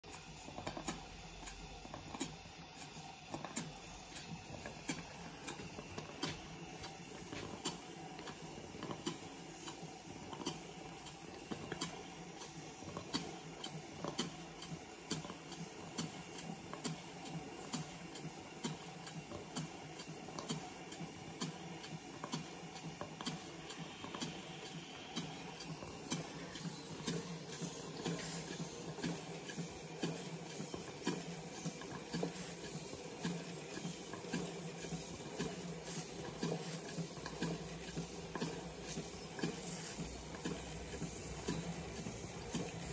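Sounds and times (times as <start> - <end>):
steam engine clicking: 0.1 - 42.9
steam hissing: 0.1 - 42.9.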